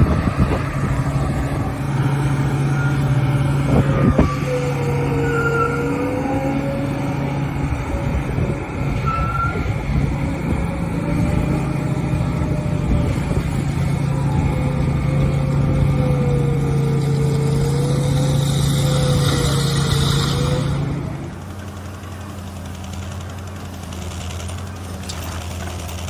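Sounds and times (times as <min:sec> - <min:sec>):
faint wavering whine: 0:00.0 - 0:21.4
heavy equipment engine running: 0:00.0 - 0:26.0.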